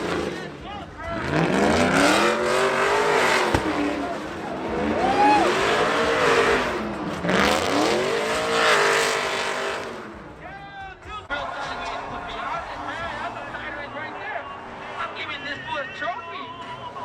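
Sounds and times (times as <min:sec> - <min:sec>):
truck engine revving: 0:00.0 - 0:10.5, 0:11.3 - 0:17.0.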